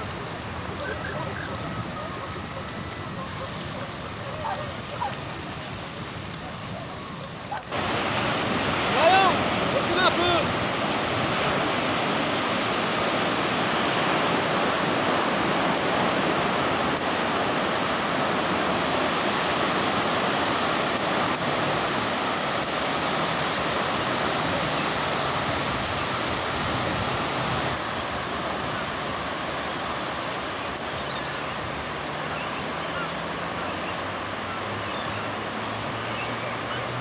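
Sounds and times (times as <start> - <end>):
sea surf rushing: 0.0 - 37.0
wind: 0.0 - 37.0.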